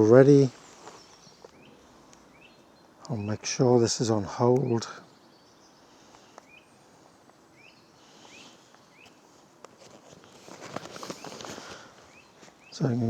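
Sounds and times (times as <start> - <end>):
soft background hiss: 0.0 - 13.0.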